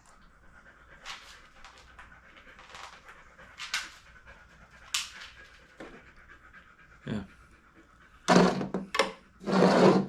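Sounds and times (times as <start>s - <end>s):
dog panting: 0.0s - 8.3s.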